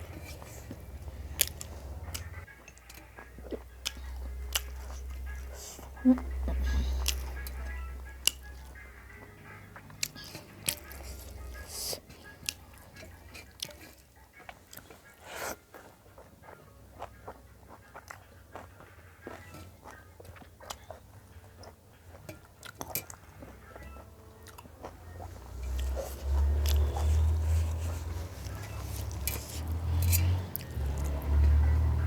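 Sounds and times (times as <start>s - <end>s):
chewing and biting: 0.0s - 32.0s.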